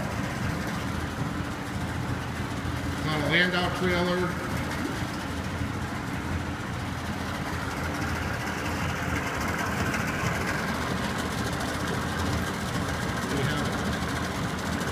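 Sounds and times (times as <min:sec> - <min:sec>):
outboard motor idling: 0:00.0 - 0:14.9.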